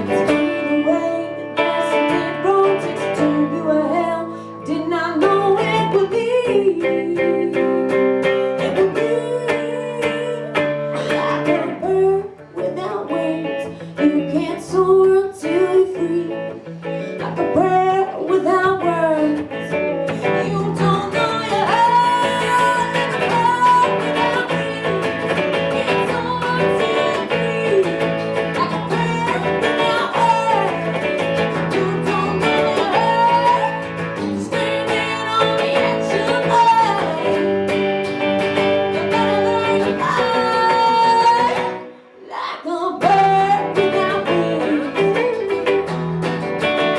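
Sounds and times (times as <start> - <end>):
guitar: 0.0 - 46.9
woman singing: 0.0 - 46.9.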